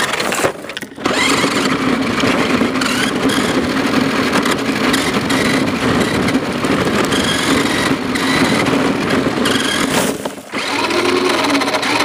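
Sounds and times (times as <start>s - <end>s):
wheels rolling: 0.0s - 12.0s
wind noise on microphone: 0.0s - 12.0s
remote-control car motor whine: 0.7s - 12.0s.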